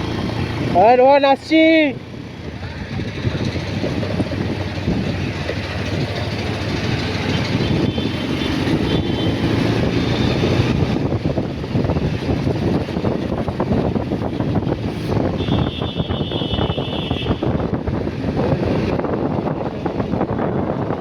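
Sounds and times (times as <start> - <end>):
motorcycle engine running: 1.8 - 21.0
wind on microphone: 2.2 - 21.0.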